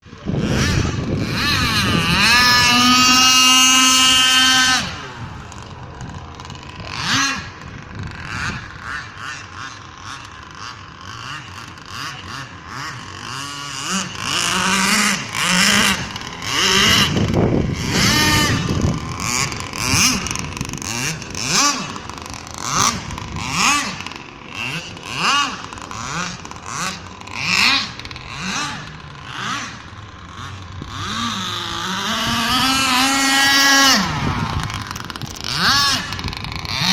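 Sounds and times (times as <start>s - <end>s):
fast boat engine revving: 0.0s - 36.9s.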